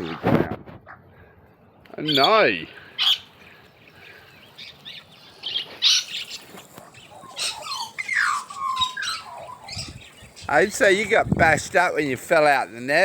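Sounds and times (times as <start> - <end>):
birds calling: 0.9 - 13.0.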